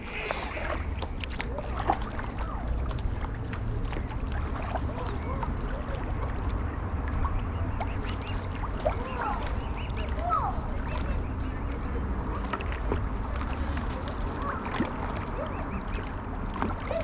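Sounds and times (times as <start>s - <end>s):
paddle strokes in water: 0.0s - 17.0s.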